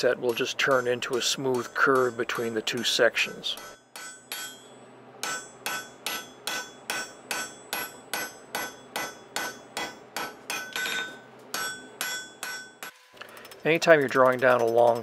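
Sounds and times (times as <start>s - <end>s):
hammer striking metal on anvil: 0.0s - 15.0s.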